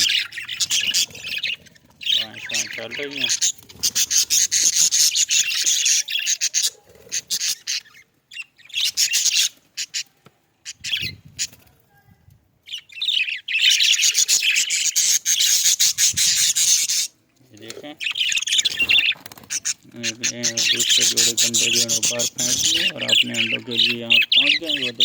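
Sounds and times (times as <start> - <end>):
budgerigars chirping: 0.0 - 11.6, 12.6 - 25.0.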